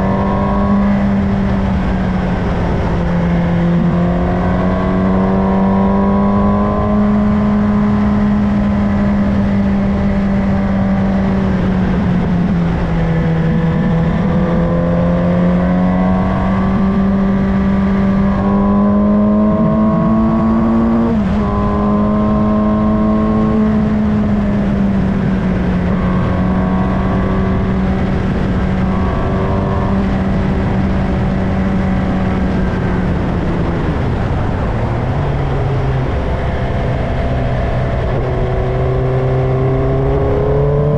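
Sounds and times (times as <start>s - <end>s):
motorcycle engine at high revs: 0.0s - 40.9s
wind rush: 0.0s - 40.9s.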